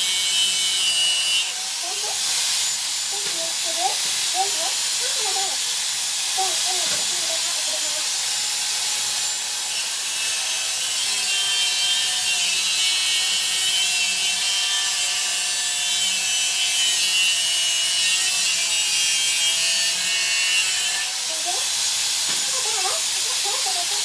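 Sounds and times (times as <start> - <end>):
angle grinder cutting steel: 0.0 - 24.0.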